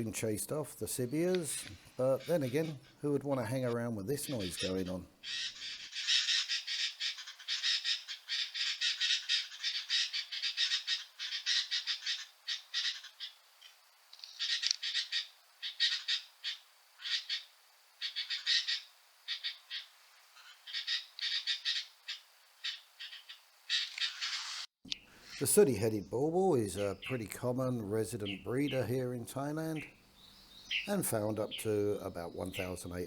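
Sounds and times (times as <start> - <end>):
birds chattering harshly: 0.0 - 33.0.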